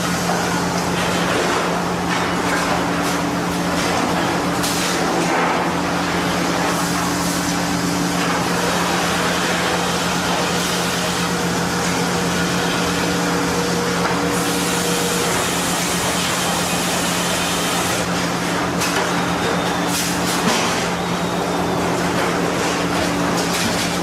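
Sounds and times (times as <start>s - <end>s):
sawmill machinery hum: 0.0s - 24.0s.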